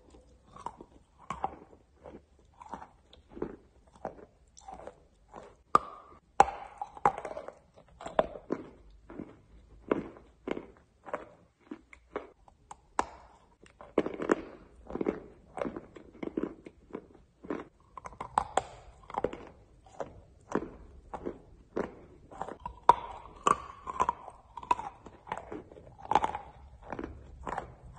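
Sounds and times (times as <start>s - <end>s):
crunching and chewing chalk: 0.0s - 27.9s.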